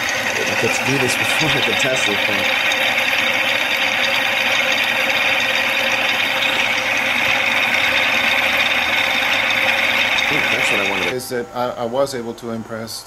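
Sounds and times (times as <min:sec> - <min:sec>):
steady mechanical noise of rollers: 0:00.0 - 0:11.1.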